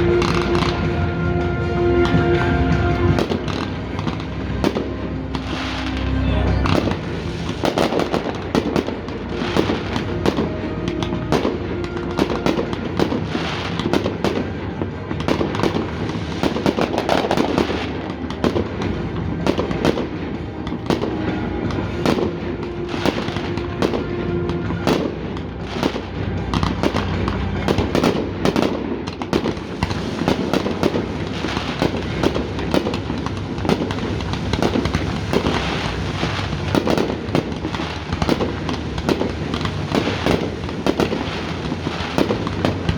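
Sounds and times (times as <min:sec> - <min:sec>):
fireworks bangs and crackles: 0:00.0 - 0:42.9
music playing: 0:00.0 - 0:42.9.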